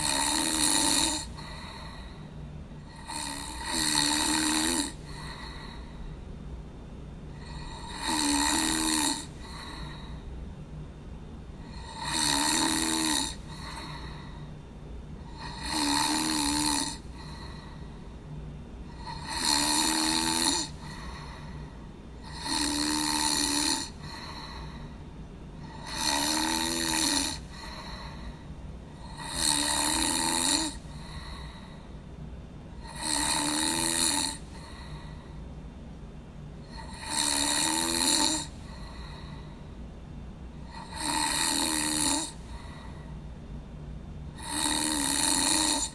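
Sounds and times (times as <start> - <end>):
person snoring with low rattle: 0.0 - 6.1, 7.3 - 10.3, 11.6 - 14.5, 15.2 - 18.2, 18.9 - 25.0, 25.6 - 31.9, 32.8 - 35.4, 36.6 - 39.6, 40.6 - 43.1, 44.3 - 45.9.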